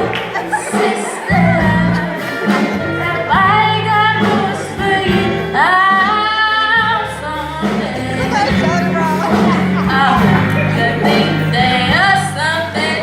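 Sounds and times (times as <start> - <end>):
low instrumental accompaniment: 0.0 - 13.0
solo voice singing: 0.0 - 13.0.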